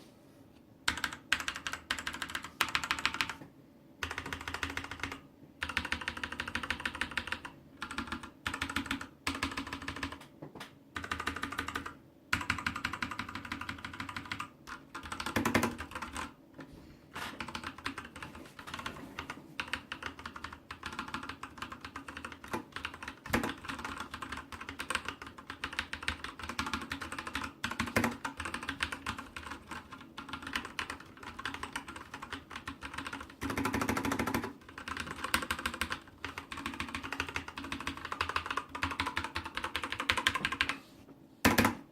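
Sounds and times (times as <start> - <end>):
mechanical keyboard typing: 0.9 - 3.4, 4.0 - 10.3, 11.0 - 16.4, 17.4 - 40.8, 41.4 - 41.9.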